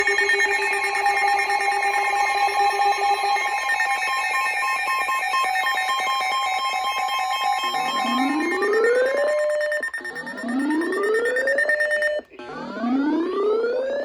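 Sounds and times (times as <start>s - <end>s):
pulsing tone: 0.0s - 13.1s
electronic alarm tones with ringing flutter: 0.0s - 13.8s.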